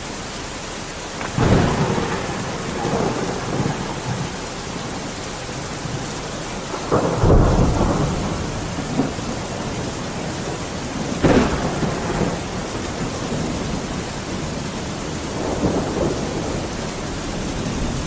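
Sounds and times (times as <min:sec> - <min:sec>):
steady rain: 0:00.0 - 0:18.0
thunder rumbling: 0:01.2 - 0:18.0.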